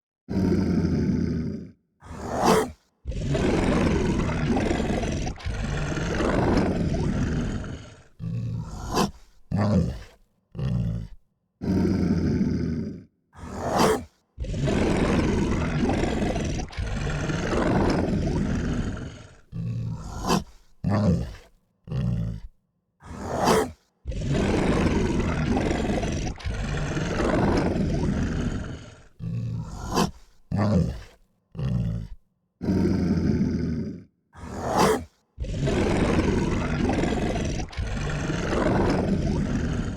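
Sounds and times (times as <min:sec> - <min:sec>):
dog growling: 0:00.3 - 0:39.9
dog snarling: 0:01.3 - 0:39.9.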